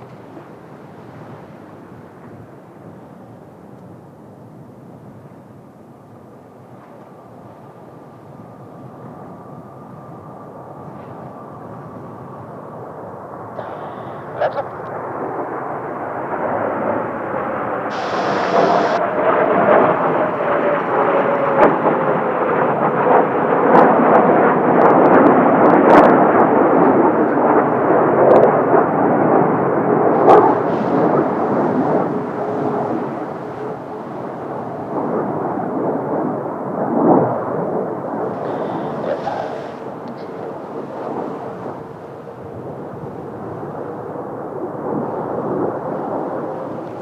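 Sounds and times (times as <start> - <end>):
jet aircraft roar flying past: 5.2 - 47.0
jet whine sliding down: 7.2 - 47.0.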